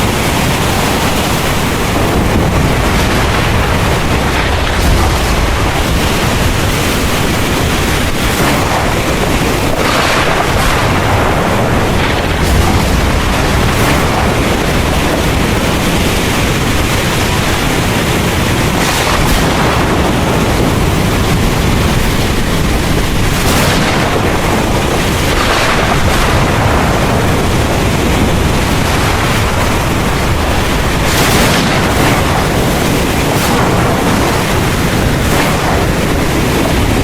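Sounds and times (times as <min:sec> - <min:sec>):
heavy rain pouring: 0:00.0 - 0:37.0
rumble of thunder: 0:00.0 - 0:37.0.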